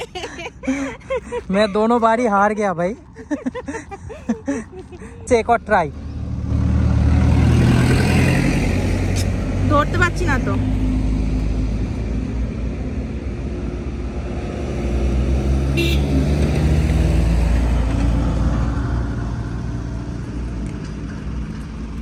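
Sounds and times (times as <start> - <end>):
traffic passing: 0.0 - 22.0.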